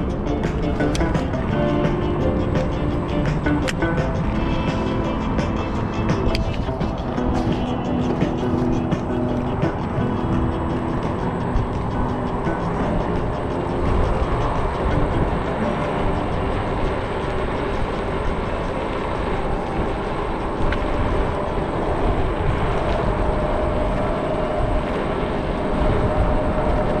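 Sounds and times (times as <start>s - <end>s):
faint steady whine: 0.0s - 27.0s
scooter road rumble: 0.0s - 27.0s
wind rushing over microphone: 0.0s - 27.0s.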